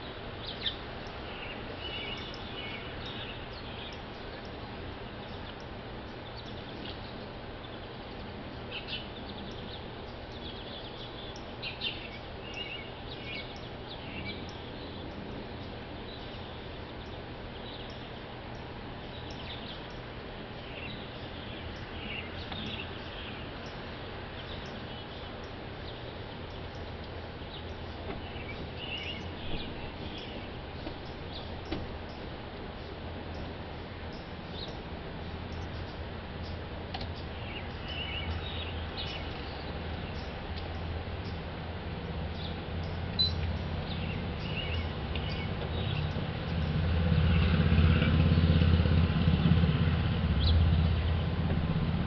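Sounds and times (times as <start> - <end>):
low background hum: 0.0 - 52.0
songbirds chirping: 0.0 - 52.0.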